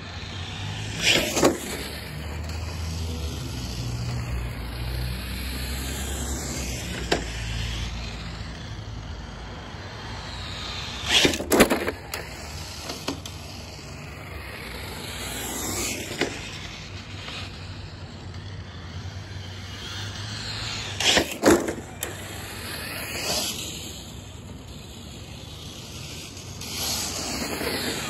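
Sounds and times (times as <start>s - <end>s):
electric motor whining: 0.0s - 28.0s.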